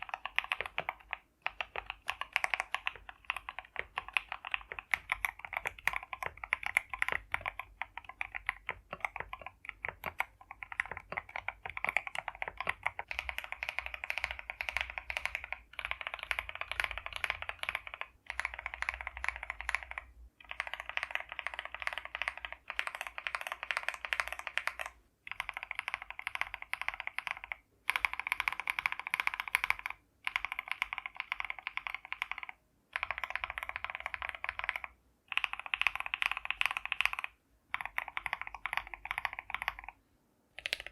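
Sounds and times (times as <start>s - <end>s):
mechanical keyboard typing: 0.0s - 40.0s, 40.6s - 40.9s.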